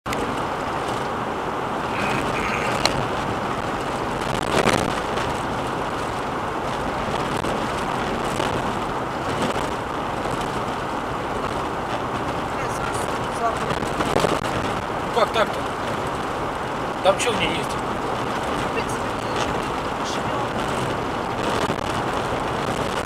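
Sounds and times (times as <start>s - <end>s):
tyre and road noise inside car: 0.0s - 23.0s.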